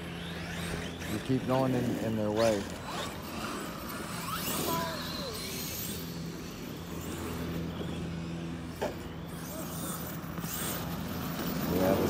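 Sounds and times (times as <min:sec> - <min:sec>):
electric motors whining: 0:00.0 - 0:12.0
steady low hum: 0:00.0 - 0:12.0.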